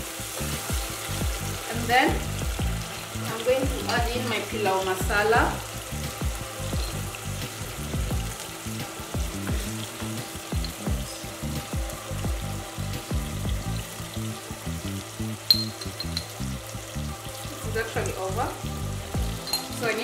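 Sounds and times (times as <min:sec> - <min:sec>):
tomatoes sizzling in oil: 0:00.0 - 0:20.0.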